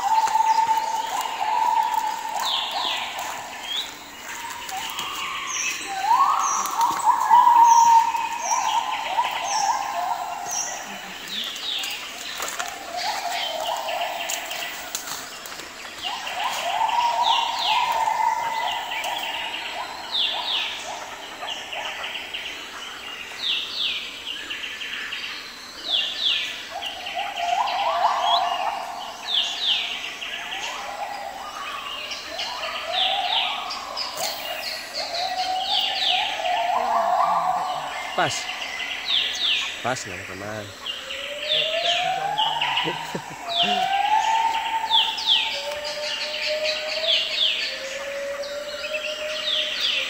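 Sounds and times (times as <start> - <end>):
birds calling with falling notes: 0.0 - 50.0.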